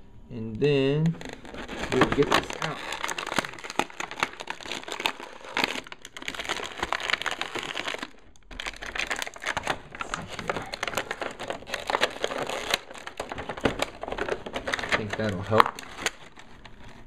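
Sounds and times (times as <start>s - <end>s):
plastic packaging crinkling: 1.1s - 17.0s.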